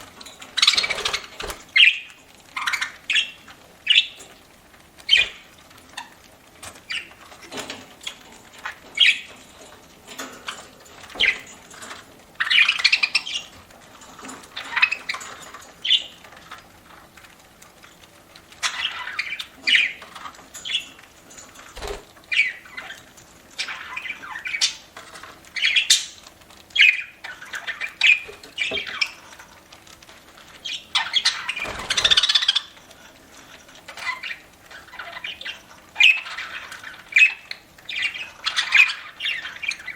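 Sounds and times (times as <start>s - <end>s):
budgerigars chirping and squawking: 0.4s - 4.3s, 5.1s - 6.2s, 6.8s - 13.6s, 14.2s - 16.2s, 18.6s - 29.5s, 30.6s - 32.8s, 33.9s - 39.9s.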